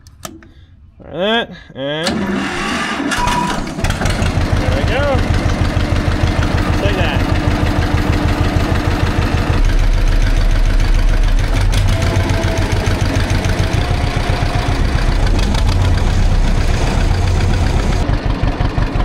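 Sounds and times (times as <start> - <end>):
tractor engine pulsing rumble: 2.0 - 19.0.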